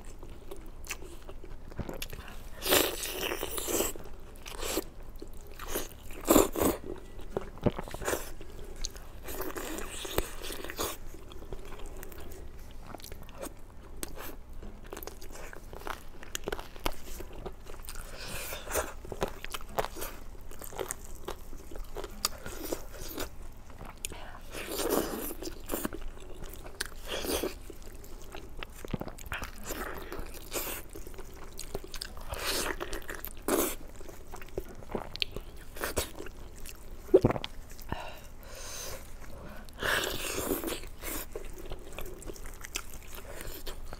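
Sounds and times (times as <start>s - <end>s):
person chewing and crunching: 0.0s - 43.9s.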